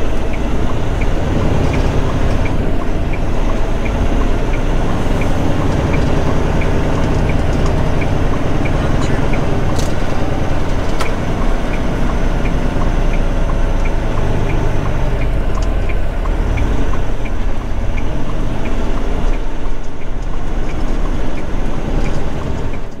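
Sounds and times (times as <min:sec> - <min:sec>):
diesel truck engine running: 0:00.0 - 0:23.0
turn signal ticking: 0:00.0 - 0:23.0.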